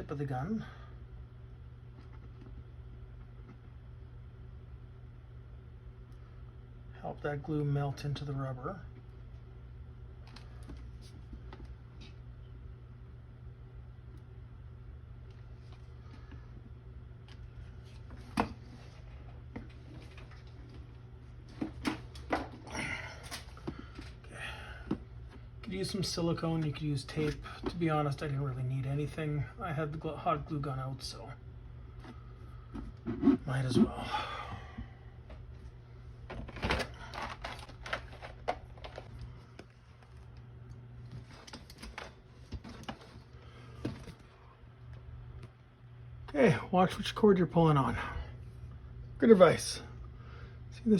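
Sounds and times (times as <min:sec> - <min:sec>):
low steady hum: 0:00.0 - 0:50.9.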